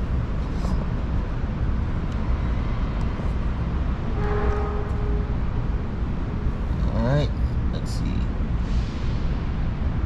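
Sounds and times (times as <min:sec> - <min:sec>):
construction and traffic rumble: 0:00.0 - 0:10.0
steady mechanical tone: 0:00.0 - 0:10.0.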